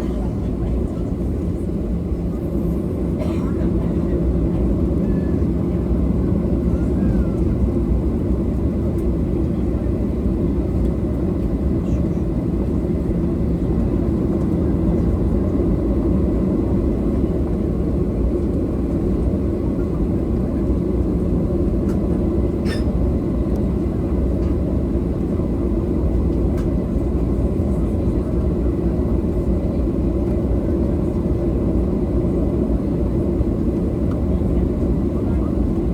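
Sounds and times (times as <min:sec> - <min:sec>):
jet engines rumbling: 0:00.0 - 0:35.9.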